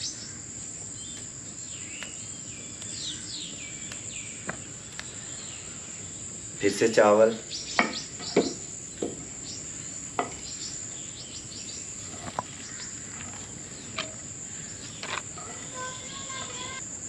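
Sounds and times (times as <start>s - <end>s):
high-pitched insect chirring: 0.0s - 17.0s.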